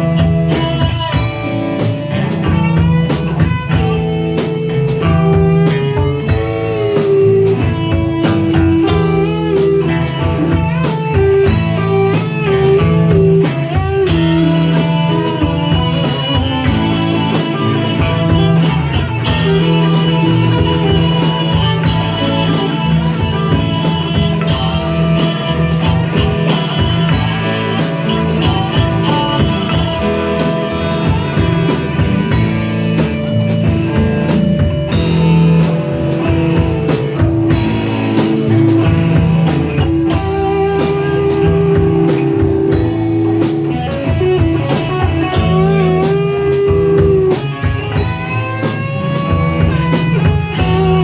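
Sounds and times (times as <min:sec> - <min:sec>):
bass: 0:00.0 - 0:51.0
drums: 0:00.0 - 0:51.0
electric guitar solo: 0:00.0 - 0:51.0.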